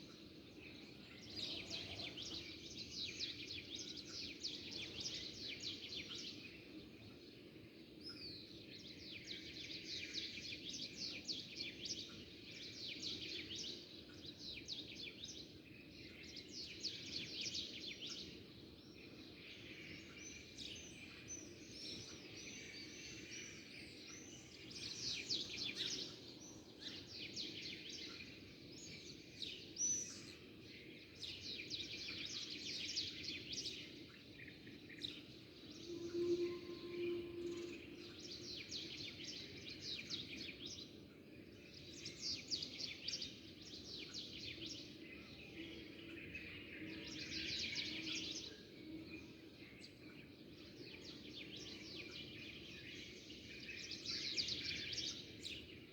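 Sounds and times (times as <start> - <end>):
flock of small birds chirping: 0.0 - 55.9.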